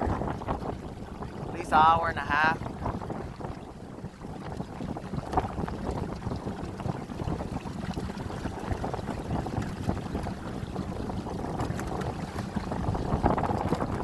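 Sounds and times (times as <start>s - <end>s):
water splashing on hull: 0.0s - 14.0s
wind buffeting microphone: 0.0s - 14.0s.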